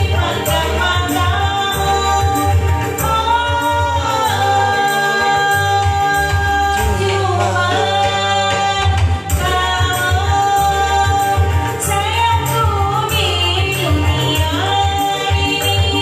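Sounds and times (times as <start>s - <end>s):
instrumental music with bass: 0.0s - 16.0s
person singing: 0.0s - 16.0s.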